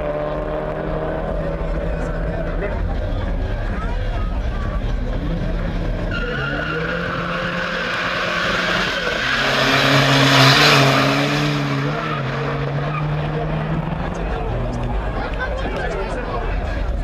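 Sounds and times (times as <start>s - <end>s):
car engines at full throttle: 0.0s - 17.0s.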